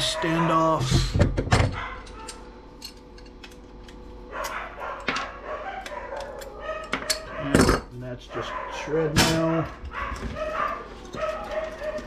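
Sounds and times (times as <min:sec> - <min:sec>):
dogs barking: 0:00.0 - 0:00.8, 0:01.6 - 0:02.6, 0:04.2 - 0:12.0.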